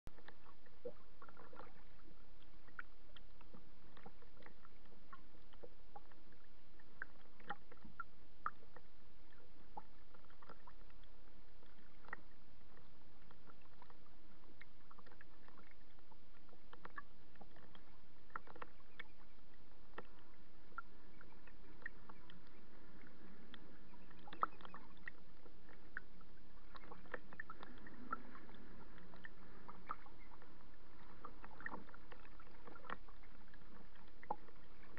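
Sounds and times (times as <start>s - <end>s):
small waves lapping against hull: 0.1s - 34.9s.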